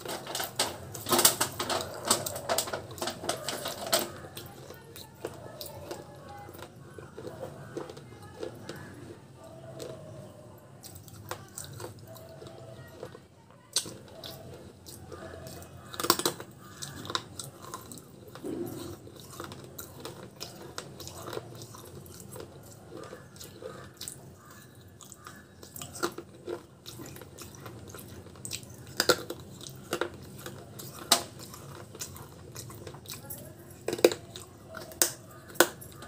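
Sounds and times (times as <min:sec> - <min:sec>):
person chewing clay: 0:00.0 - 0:36.0.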